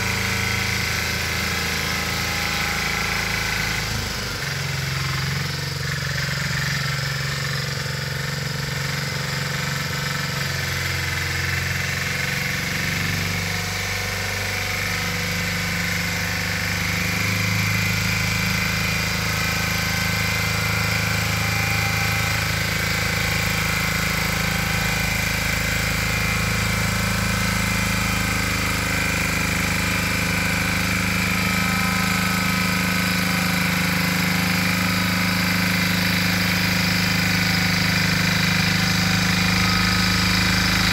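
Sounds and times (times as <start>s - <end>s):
cultivator engine running: 0.0s - 40.9s.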